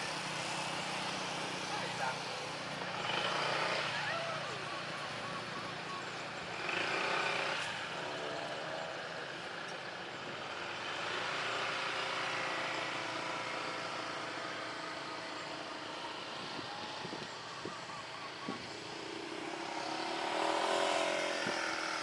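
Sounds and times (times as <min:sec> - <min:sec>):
engine noise: 0:00.0 - 0:22.0.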